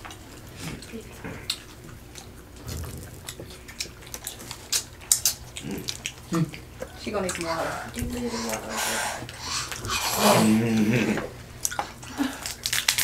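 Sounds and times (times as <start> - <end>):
people chewing and lip-smacking: 0.0 - 13.0.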